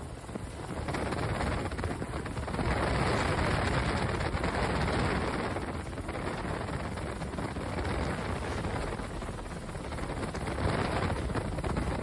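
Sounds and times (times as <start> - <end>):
wind and aircraft noise: 0.0 - 12.0.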